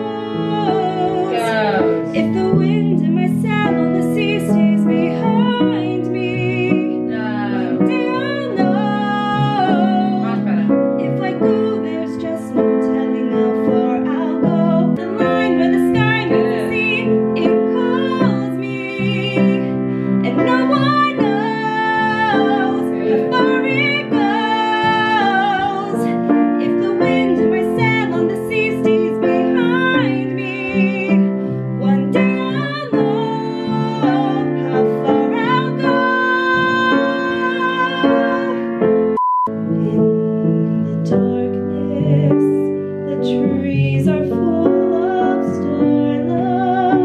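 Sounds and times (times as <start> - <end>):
woman singing with vibrato: 0.0 - 38.9, 39.5 - 47.0
instrumental accompaniment: 0.0 - 47.0.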